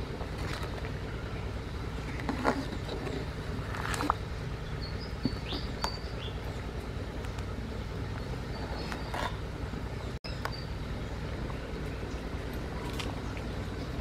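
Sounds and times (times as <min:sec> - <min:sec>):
birds chirping faintly: 0:00.0 - 0:14.0
steady low rumble: 0:00.0 - 0:14.0.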